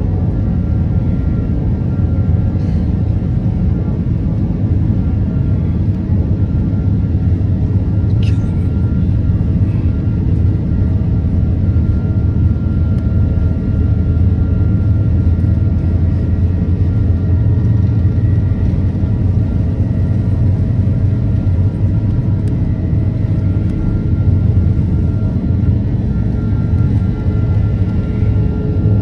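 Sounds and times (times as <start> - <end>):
engine and wheel rumble: 0.0 - 29.0
faint whining tones: 0.2 - 29.0.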